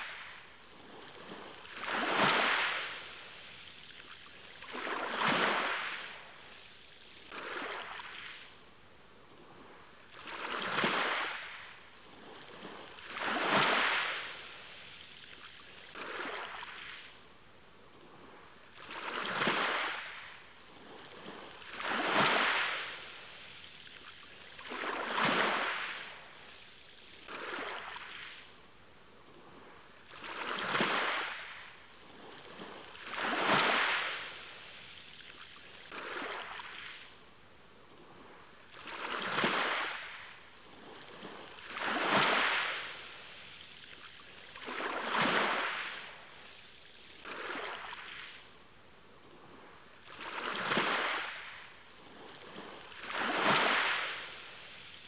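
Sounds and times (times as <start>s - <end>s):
small ocean waves breaking: 0.0s - 55.0s.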